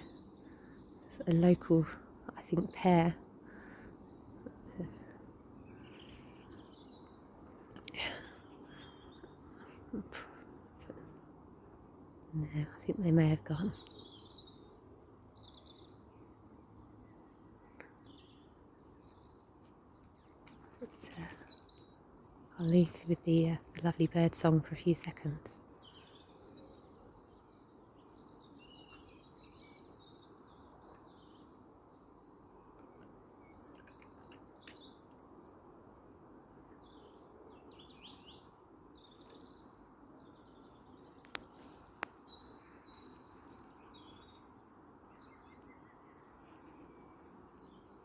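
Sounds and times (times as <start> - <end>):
songbirds singing and chirping: 0.0 - 48.0.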